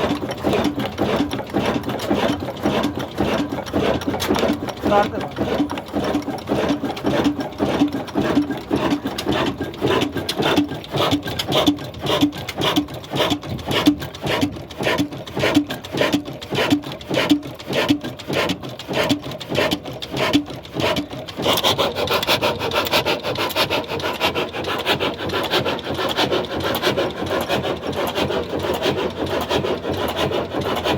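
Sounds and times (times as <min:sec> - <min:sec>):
stationary diesel engine running: 0:00.0 - 0:30.9.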